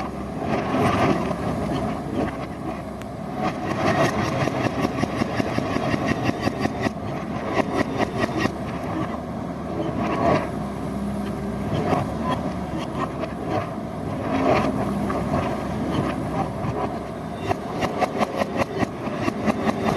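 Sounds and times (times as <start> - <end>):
diesel machinery engine running: 0.0 - 19.9.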